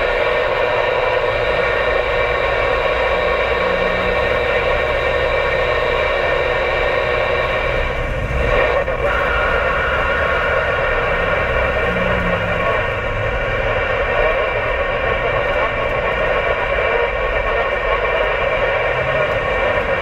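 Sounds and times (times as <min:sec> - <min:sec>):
vehicle road and engine noise: 0:00.0 - 0:20.0.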